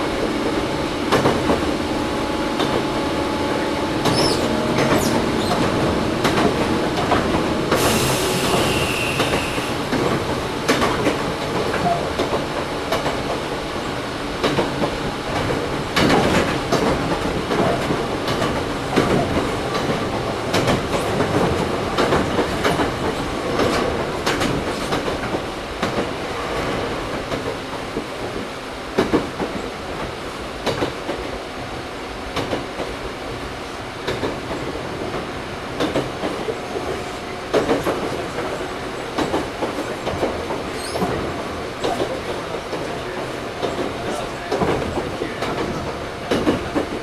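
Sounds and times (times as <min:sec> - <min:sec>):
wheels clacking over rail joints: 0:00.0 - 0:31.4, 0:34.0 - 0:47.0
train rolling rumble: 0:00.0 - 0:47.0.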